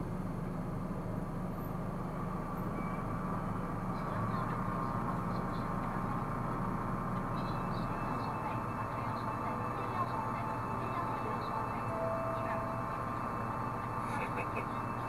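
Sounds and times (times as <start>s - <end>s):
car driving hum: 0.0s - 15.0s.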